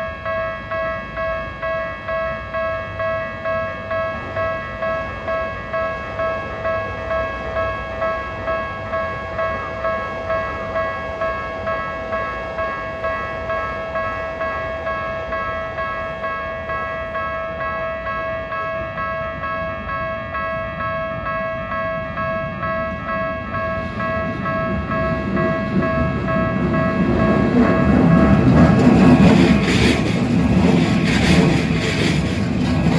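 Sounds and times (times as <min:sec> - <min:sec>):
approaching train rumble: 0:00.0 - 0:32.9
level crossing warning bell: 0:00.0 - 0:32.9.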